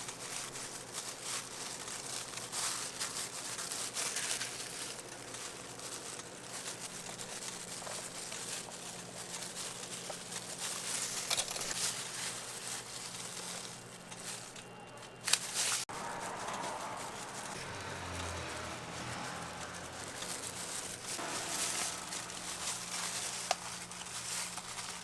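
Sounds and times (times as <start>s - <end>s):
crinkly rustling and scraping: 0.0s - 25.0s.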